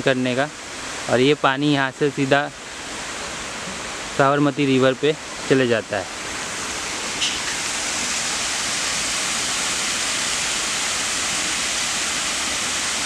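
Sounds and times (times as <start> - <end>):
water rushing through dam gates: 0.0 - 13.0.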